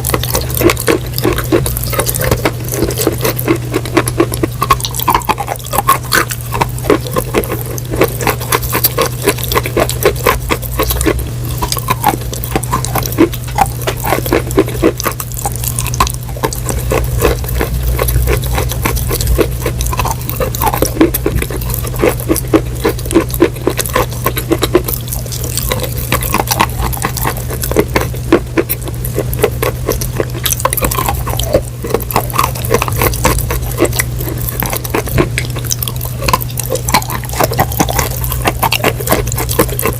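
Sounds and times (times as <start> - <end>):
crunching and chewing food: 0.0 - 39.9
steady low hum: 0.0 - 39.9
wet mouth sounds: 0.0 - 39.9.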